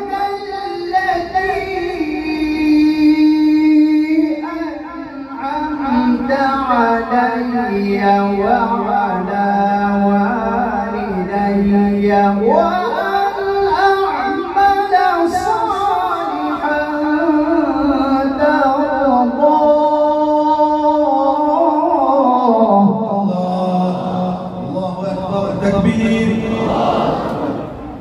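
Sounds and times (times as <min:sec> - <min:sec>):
man chanting melodically: 0:00.0 - 0:28.0.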